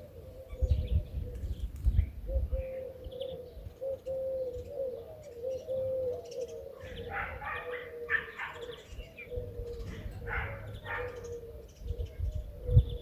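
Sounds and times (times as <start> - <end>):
low wavering bird cooing: 0.0 - 13.0.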